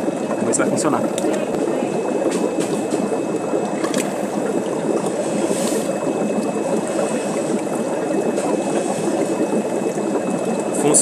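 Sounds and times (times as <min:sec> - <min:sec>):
water rushing and bubbling: 0:00.0 - 0:11.0.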